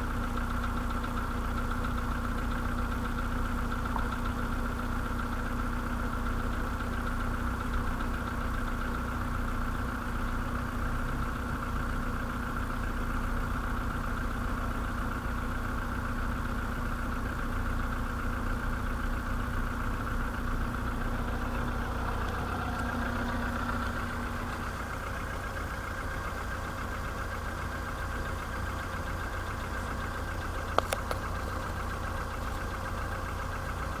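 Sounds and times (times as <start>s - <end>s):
car engine idling with knock: 0.0s - 34.0s.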